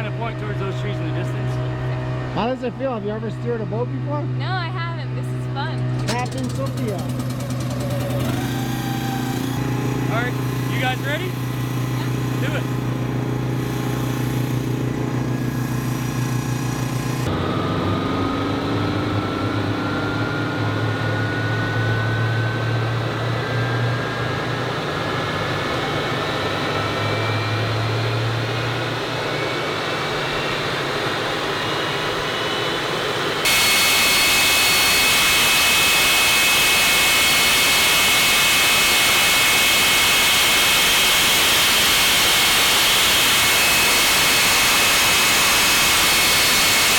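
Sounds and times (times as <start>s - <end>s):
engine whine rising in pitch: 0.0s - 46.9s
turbojet engine running: 0.0s - 46.9s
jet noise with high whistling: 8.2s - 46.9s.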